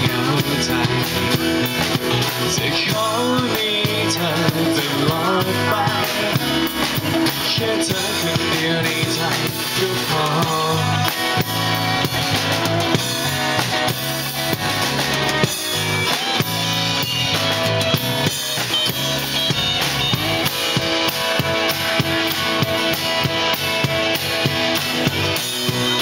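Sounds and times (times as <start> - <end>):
drum kit beat: 0.0 - 26.0
live pop-rock band playing: 0.0 - 26.0.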